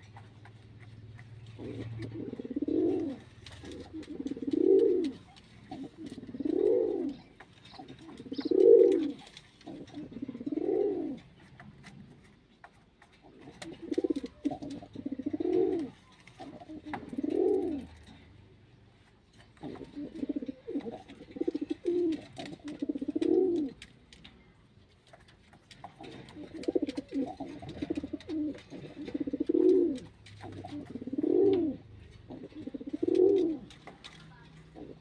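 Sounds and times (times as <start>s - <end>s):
pigeon cooing: 0.0s - 12.4s, 13.2s - 18.3s, 19.4s - 23.9s, 25.7s - 35.0s.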